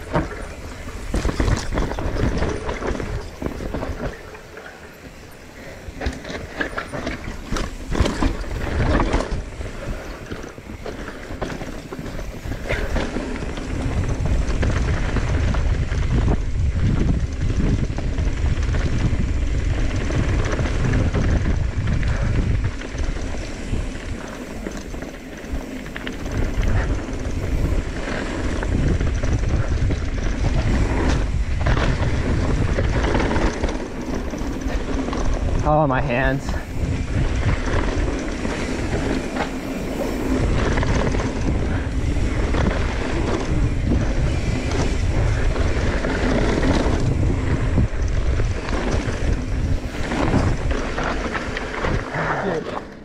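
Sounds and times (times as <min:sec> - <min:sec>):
bike tyres on dirt: 0:00.0 - 0:53.0
wind buffeting microphone: 0:00.0 - 0:53.0.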